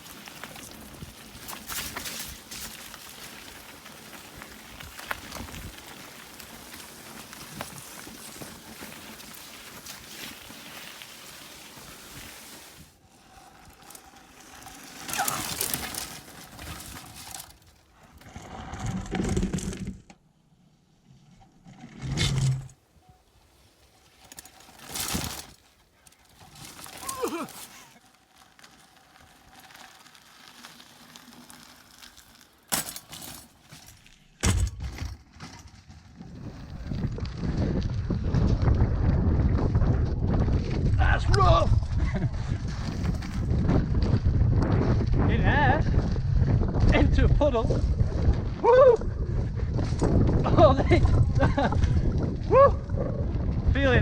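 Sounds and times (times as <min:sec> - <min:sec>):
bike rattles and knocks: 0:00.0 - 0:12.6, 0:13.2 - 0:20.2, 0:23.8 - 0:41.0, 0:41.8 - 0:52.5
bike riding over rough trail: 0:00.0 - 0:54.0.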